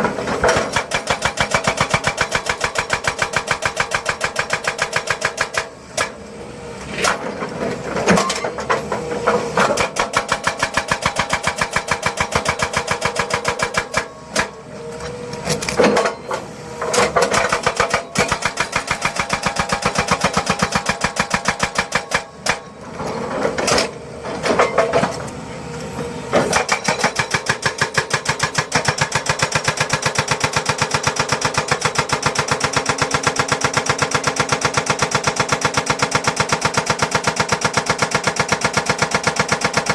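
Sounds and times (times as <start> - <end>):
construction machinery pounding: 0.0 - 39.9.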